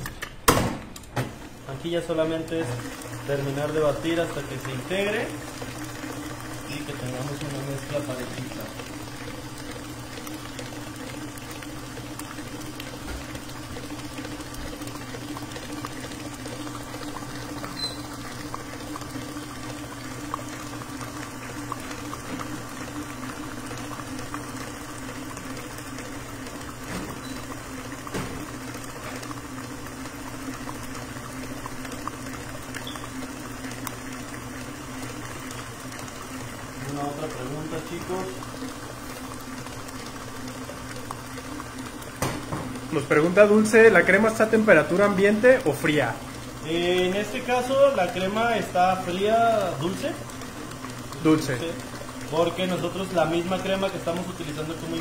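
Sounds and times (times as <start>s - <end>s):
stand mixer motor humming: 1.0s - 55.0s
whisk churning batter: 1.5s - 55.0s.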